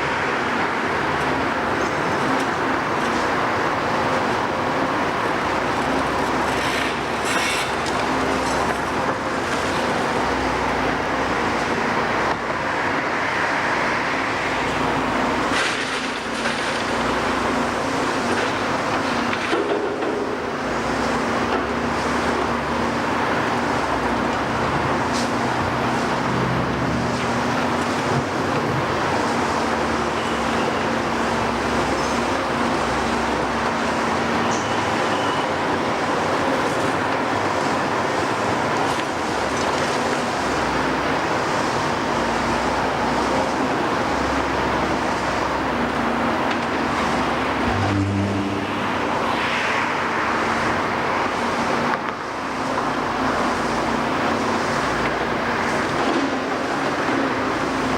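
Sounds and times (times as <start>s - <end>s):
diesel machinery engine hum: 0.0s - 57.9s.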